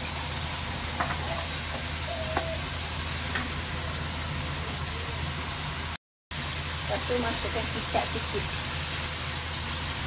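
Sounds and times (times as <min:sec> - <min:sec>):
sauce sizzling in a wok: 0:00.0 - 0:10.0.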